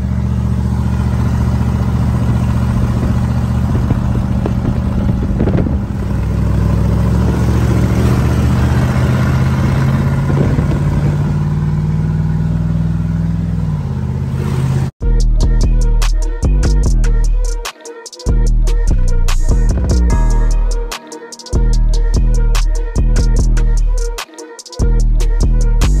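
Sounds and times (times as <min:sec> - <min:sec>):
truck engine drone: 0:00.0 - 0:26.0.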